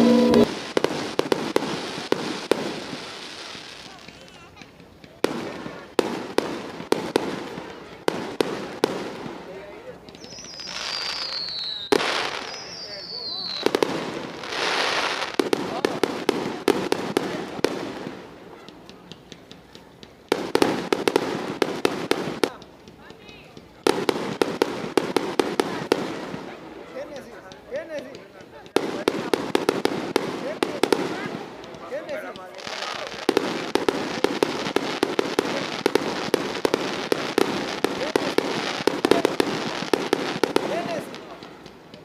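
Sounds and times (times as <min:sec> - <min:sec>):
faint fireworks crackling: 0:00.0 - 0:42.0
fireworks banging: 0:00.0 - 0:42.0.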